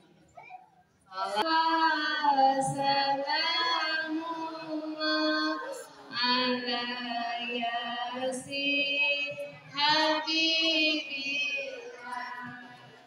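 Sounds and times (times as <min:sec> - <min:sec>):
children and women singing: 0:01.1 - 0:13.0.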